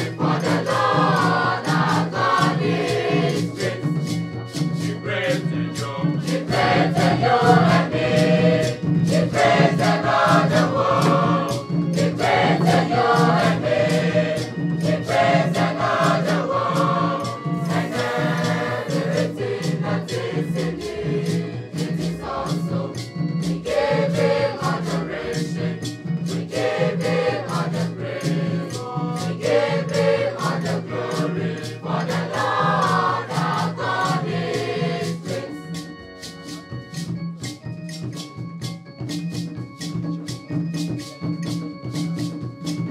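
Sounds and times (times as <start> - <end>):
mixed choir singing: 0.0 - 35.9
hand drums: 0.0 - 42.9.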